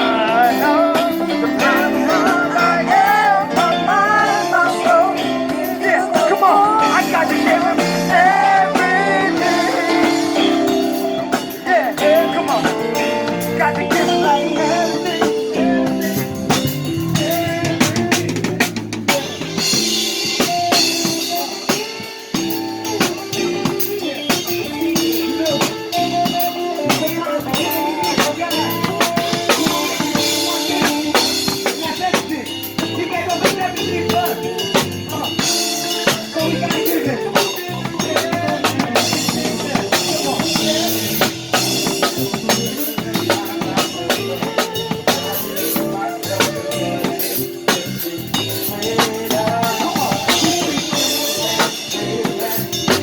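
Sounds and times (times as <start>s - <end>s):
live band playing instrumental: 0.0s - 53.0s.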